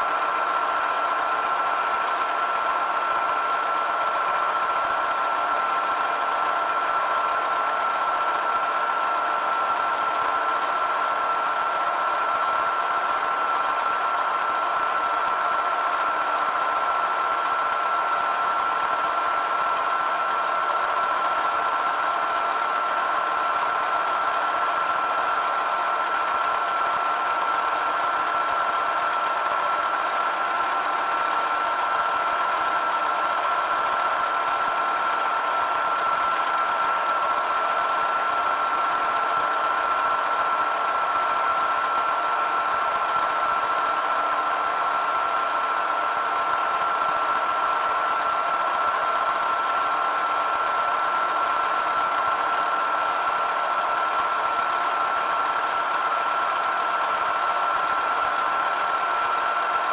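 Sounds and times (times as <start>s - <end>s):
milling machine whining: 0.0s - 59.9s.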